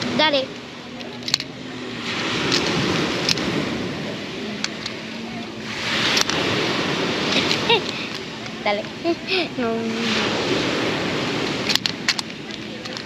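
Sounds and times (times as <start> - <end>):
surf washing on beach: 0.0 - 13.0
wind on microphone: 0.0 - 13.0.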